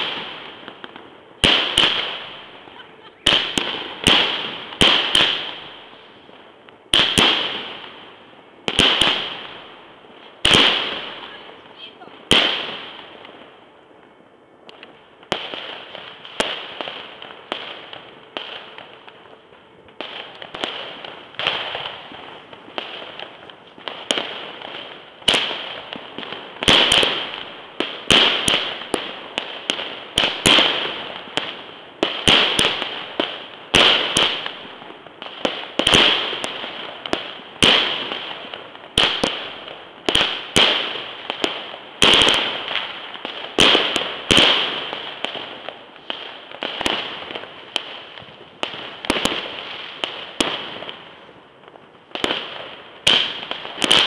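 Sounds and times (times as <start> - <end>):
firework bangs: 0.0 - 13.6, 14.6 - 54.0
firework crackling hiss: 0.0 - 54.0.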